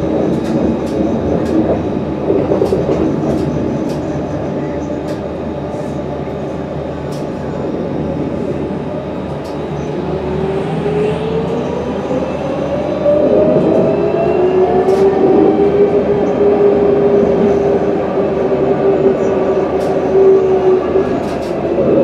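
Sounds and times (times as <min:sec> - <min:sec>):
tram motors whining: 0:00.0 - 0:22.0.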